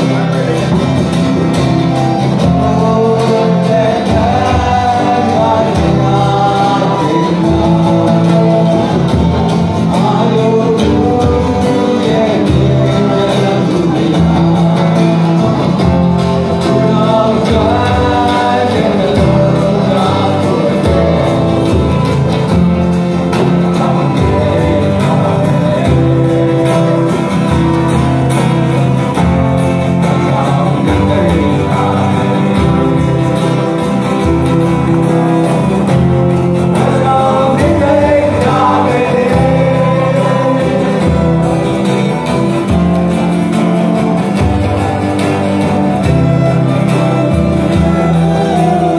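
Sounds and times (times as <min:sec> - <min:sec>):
backing voices: 0:00.0 - 0:48.9
hand drum: 0:00.0 - 0:48.9
man singing: 0:00.0 - 0:48.9
strummed acoustic guitars: 0:00.0 - 0:48.9.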